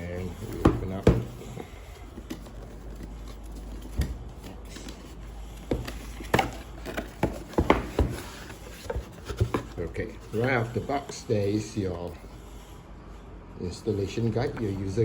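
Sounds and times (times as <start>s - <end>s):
paper and cardboard rustling: 0.0s - 12.7s.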